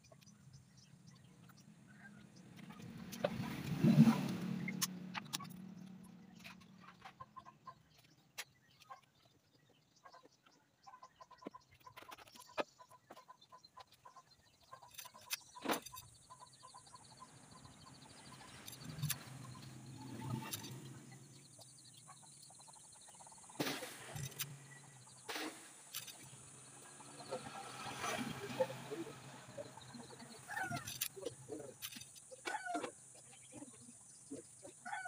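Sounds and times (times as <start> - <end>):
chickens: 2.0 - 35.0.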